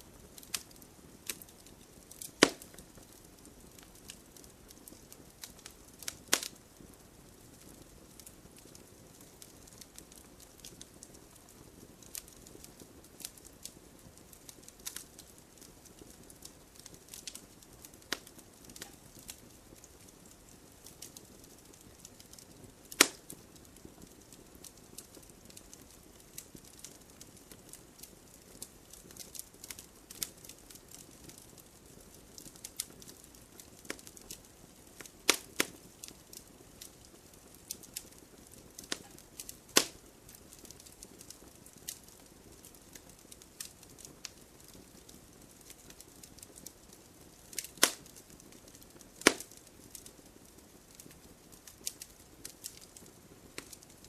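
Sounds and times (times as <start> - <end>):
campfire popping and snapping: 0.0 - 54.0.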